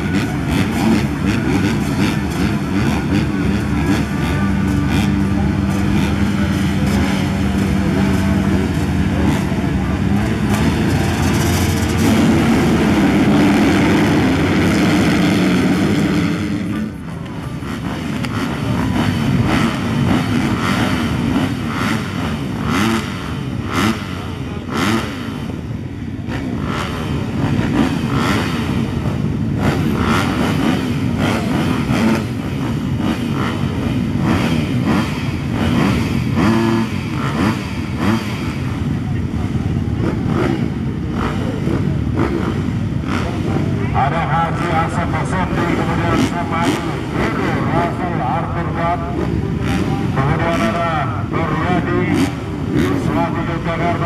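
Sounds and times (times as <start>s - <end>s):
dirt bikes revving: 0.0s - 54.0s
motocross bikes engine drone: 0.0s - 54.0s.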